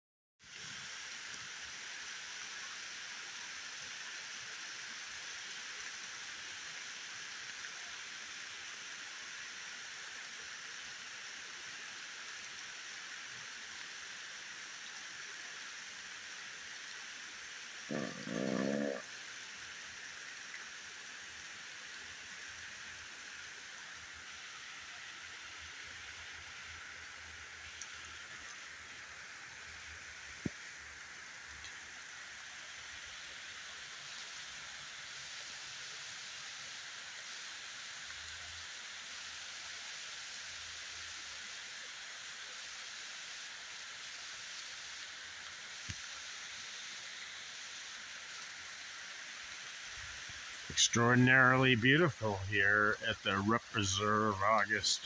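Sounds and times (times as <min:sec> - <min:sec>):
rain falling on forest: 0:00.4 - 0:55.0.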